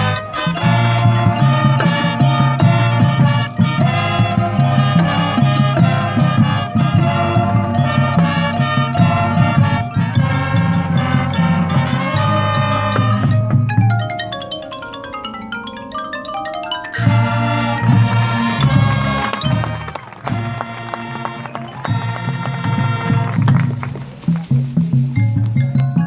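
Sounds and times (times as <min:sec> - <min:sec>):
marching band playing: 0:00.0 - 0:15.0, 0:16.9 - 0:26.0.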